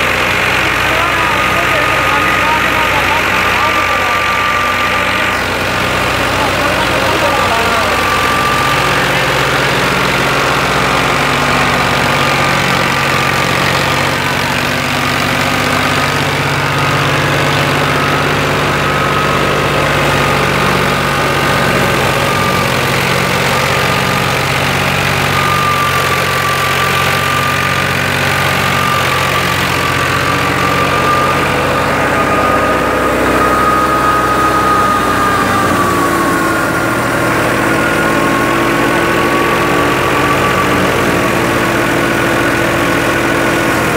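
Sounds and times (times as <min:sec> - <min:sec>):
thresher high whine: 0:00.0 - 0:43.9
tractor diesel engine running: 0:00.0 - 0:43.9.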